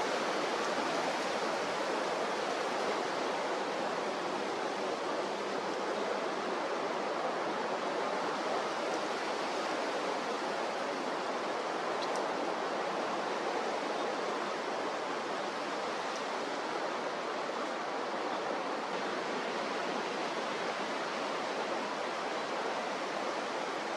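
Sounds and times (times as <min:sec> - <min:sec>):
sea surf: 0:00.0 - 0:23.9
strong wind: 0:00.0 - 0:23.9.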